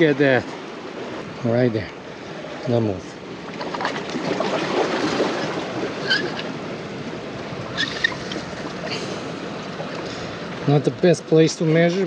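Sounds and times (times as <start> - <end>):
surf washing against rocks: 0.0 - 12.0.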